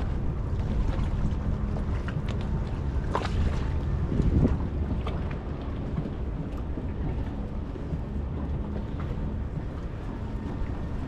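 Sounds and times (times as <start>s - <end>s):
boat engine rumbling: 0.0s - 11.0s
wind on microphone: 0.0s - 11.0s.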